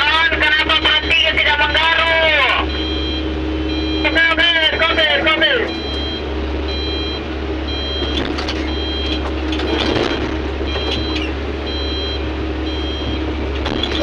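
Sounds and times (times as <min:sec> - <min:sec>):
diesel engine droning: 0:00.0 - 0:14.0
backup alarm beeping: 0:00.5 - 0:14.0.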